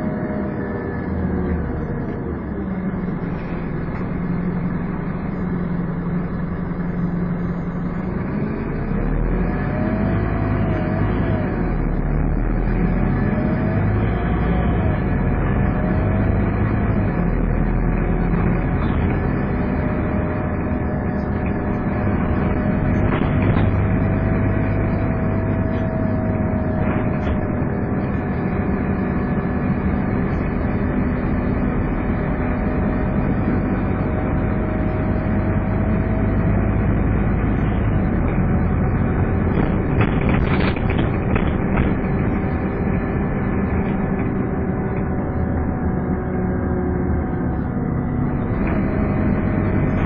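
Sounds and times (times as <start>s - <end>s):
bus engine whining: 0.0s - 50.0s.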